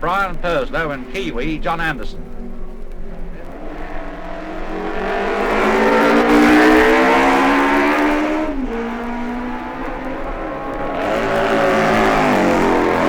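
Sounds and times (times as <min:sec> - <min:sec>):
racing motorcycle accelerating: 0:00.0 - 0:13.0.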